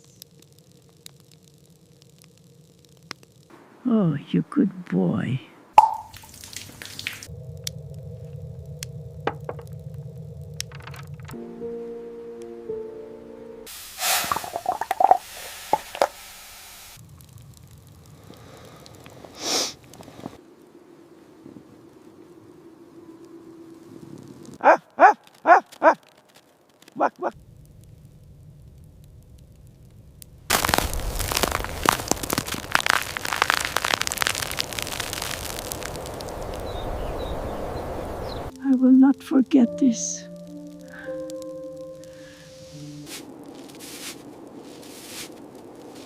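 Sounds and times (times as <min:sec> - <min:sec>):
wood fire crackling: 0:00.0 - 0:12.6, 0:13.6 - 0:46.0.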